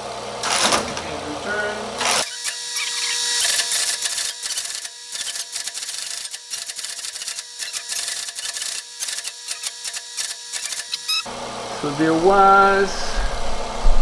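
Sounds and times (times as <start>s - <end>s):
steady machine hum: 2.2s - 13.8s.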